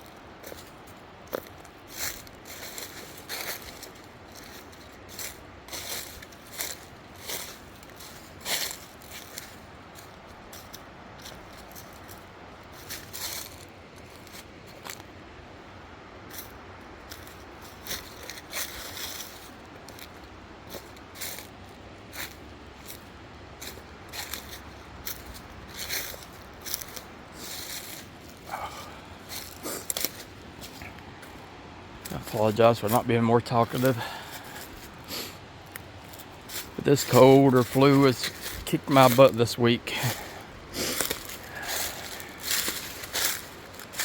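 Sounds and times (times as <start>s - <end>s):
footsteps crunching on rough ground: 0.0s - 15.2s, 16.3s - 44.0s.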